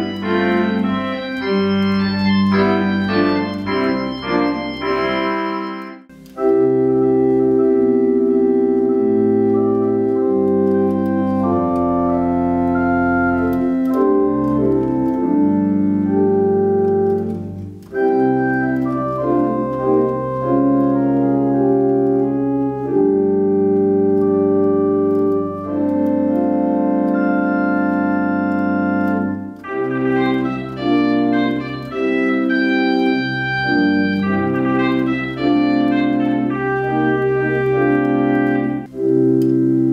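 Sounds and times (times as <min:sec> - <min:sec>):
organ chords: 0:00.0 - 0:39.9.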